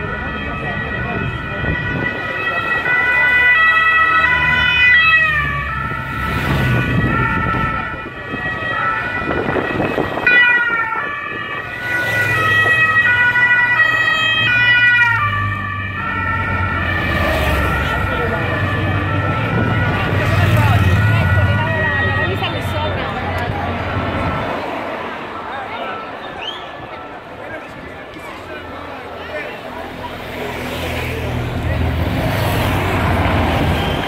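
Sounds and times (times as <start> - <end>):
motorcycle sirens: 0.0 - 24.4, 25.4 - 34.0
motorcycle engines rumbling: 0.0 - 34.0.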